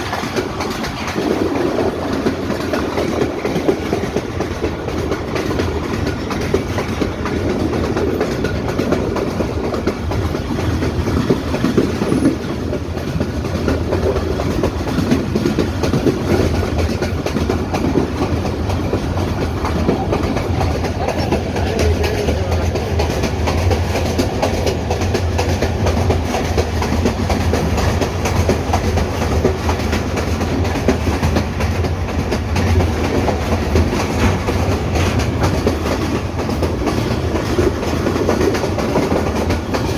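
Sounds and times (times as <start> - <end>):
train low rumble: 0.0 - 39.9
train wheels clattering: 0.0 - 39.9.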